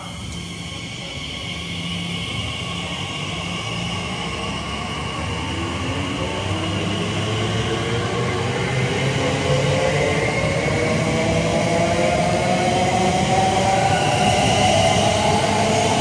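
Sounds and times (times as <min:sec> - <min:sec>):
passing train running noise: 0:00.0 - 0:16.0.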